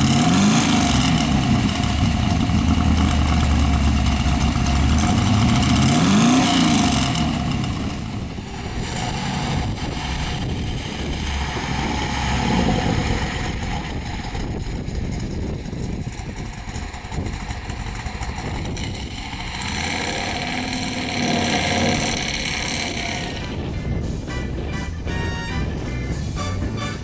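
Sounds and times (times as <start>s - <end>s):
car engine driving off: 0.0s - 24.7s.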